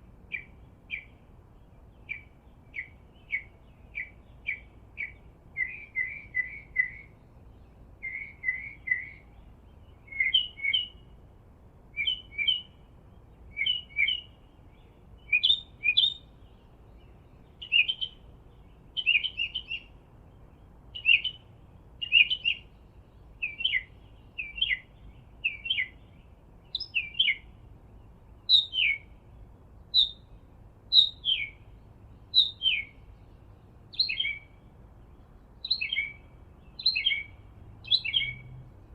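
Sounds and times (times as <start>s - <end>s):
faint outdoor hiss: 0.0s - 38.9s
songbird chirping: 0.0s - 38.9s.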